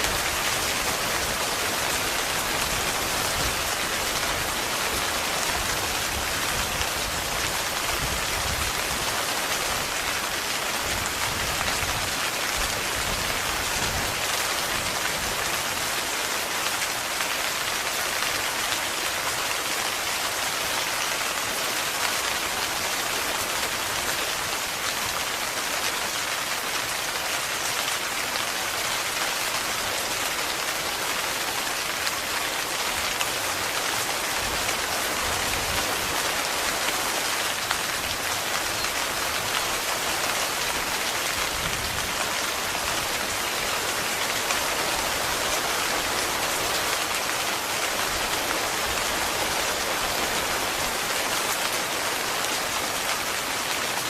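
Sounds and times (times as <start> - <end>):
heavy rain on tent fabric: 0.0 - 54.0.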